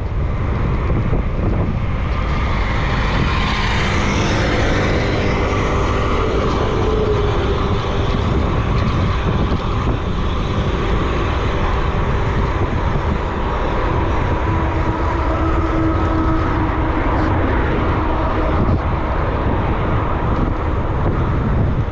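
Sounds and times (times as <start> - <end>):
road noise: 0.0 - 21.9
rushing wind: 0.0 - 21.9.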